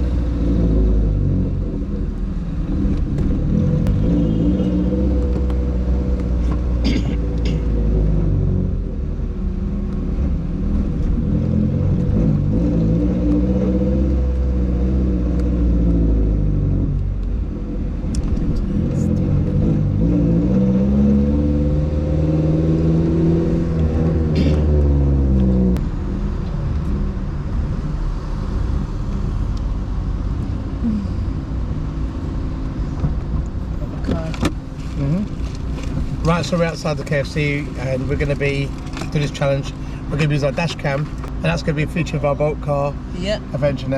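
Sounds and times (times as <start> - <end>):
car engine accelerating: 0.0 - 43.9
road rumble: 0.0 - 43.9.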